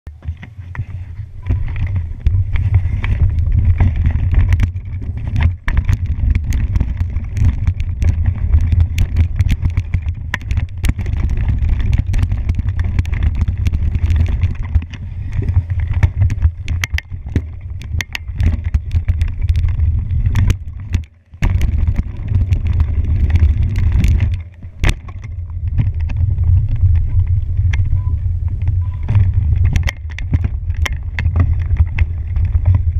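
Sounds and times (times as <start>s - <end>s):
bike chain and frame rattling: 0.1s - 32.9s
wind rumble on microphone: 0.1s - 32.9s
tyres rolling over dry leaves: 0.2s - 27.7s.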